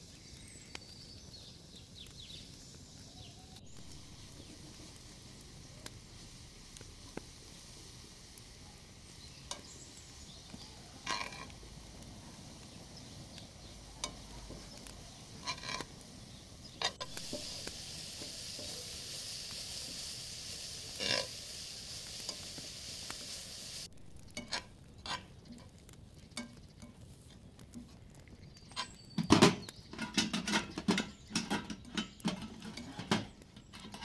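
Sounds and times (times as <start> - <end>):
greens sizzling in a pot: 0.0 - 34.0.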